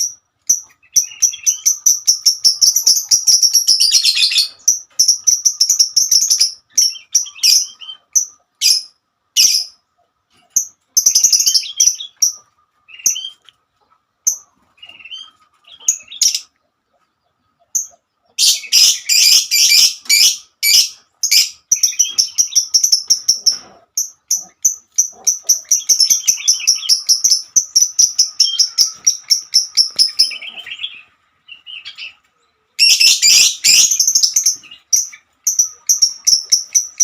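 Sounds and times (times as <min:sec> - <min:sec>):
lovebird chirping: 0:00.0 - 0:37.0.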